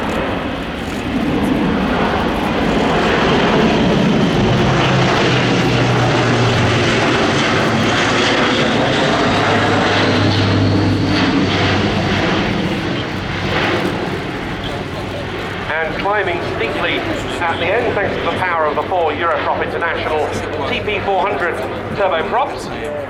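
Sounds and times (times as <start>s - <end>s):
loud propeller drone: 0.0s - 23.0s.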